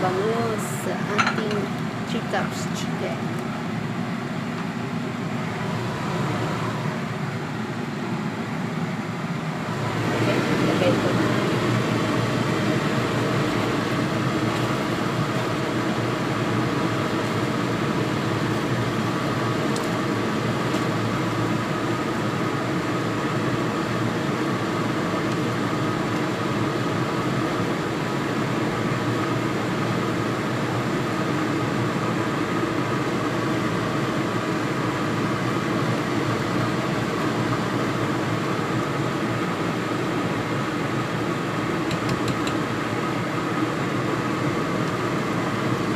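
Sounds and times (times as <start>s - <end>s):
fan machine whirring: 0.0s - 45.9s.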